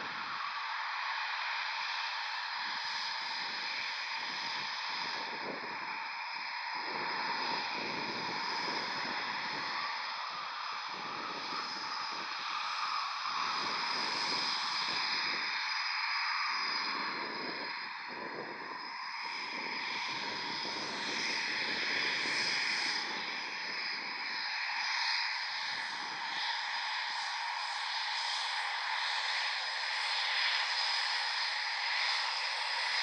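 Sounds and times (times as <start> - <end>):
high-pitched jet whine: 0.0 - 33.0.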